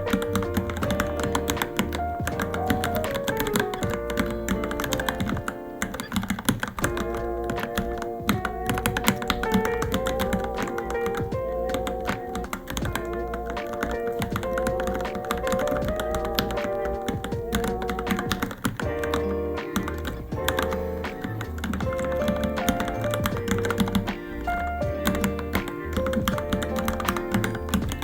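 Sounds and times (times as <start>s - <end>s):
background music: 0.0s - 28.0s
mechanical keyboard typing: 0.0s - 28.0s.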